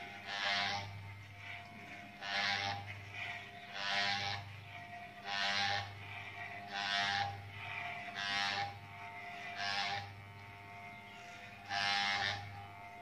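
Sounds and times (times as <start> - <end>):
clipper blades cutting hair: 0.0 - 13.0
electric hair clipper humming: 0.0 - 13.0.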